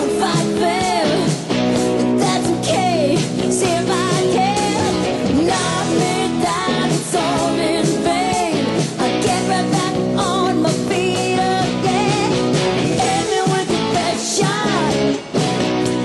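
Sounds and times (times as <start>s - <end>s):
rock song with vocals: 0.0s - 16.0s.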